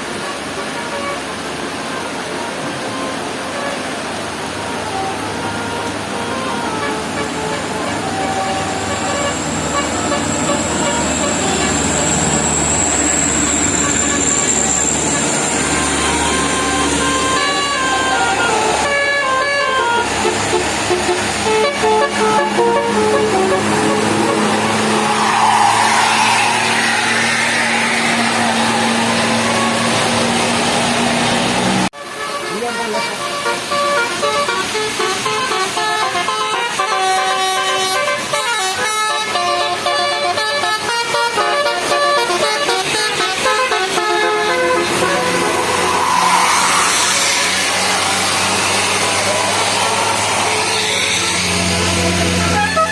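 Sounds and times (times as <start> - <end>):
bus and traffic noise: 0.0 - 52.9
musical horn notes: 0.1 - 12.4, 13.2 - 30.5, 32.0 - 49.4, 51.7 - 52.9.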